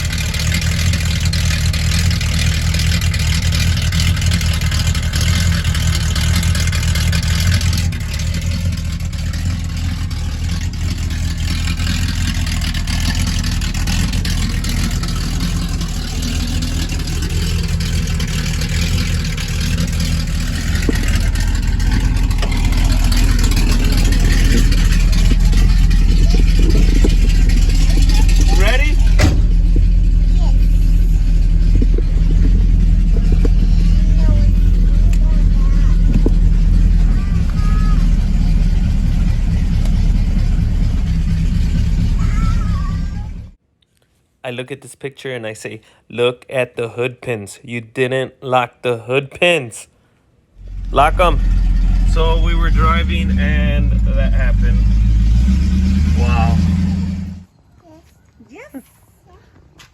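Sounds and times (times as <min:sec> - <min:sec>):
car engine idling: 0:00.0 - 0:43.6, 0:50.6 - 0:57.5.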